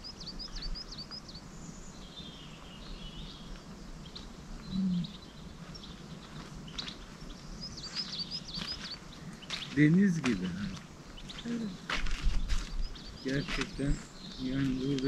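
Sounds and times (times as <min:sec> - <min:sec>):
faint background noise: 0:00.0 - 0:15.0
songbirds chirping: 0:00.0 - 0:15.0.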